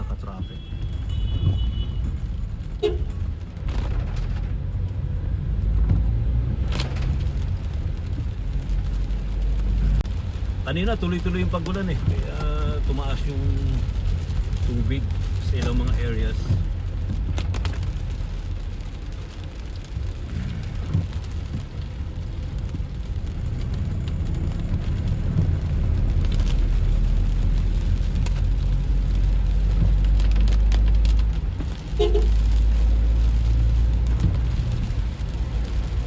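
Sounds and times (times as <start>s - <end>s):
car driving rumble from inside: 0.0s - 36.0s
rain on a car: 0.0s - 36.0s.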